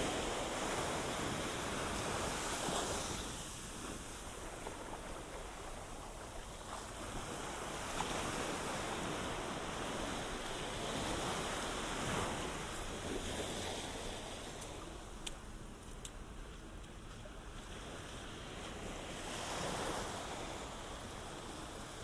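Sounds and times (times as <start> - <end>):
waves washing onto sand: 0.0 - 22.0.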